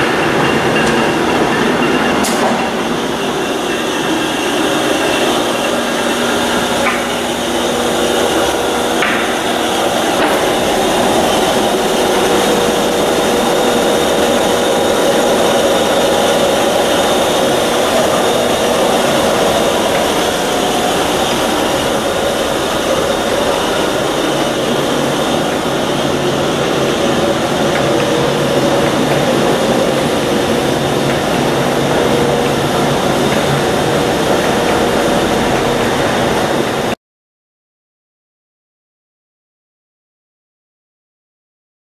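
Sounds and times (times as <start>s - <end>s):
lathe running: 0.0s - 37.0s.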